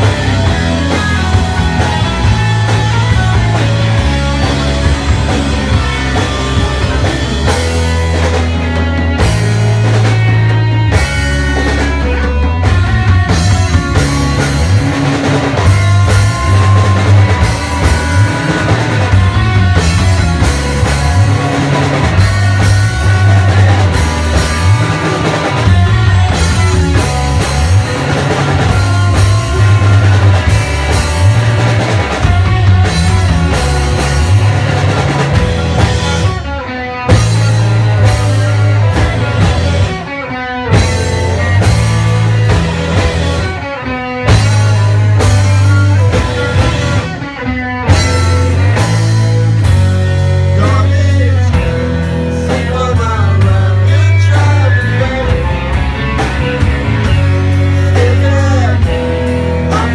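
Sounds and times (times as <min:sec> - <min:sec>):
drum kit with cymbals: 0:00.0 - 0:59.9
rock band playing loudly: 0:00.0 - 0:59.9.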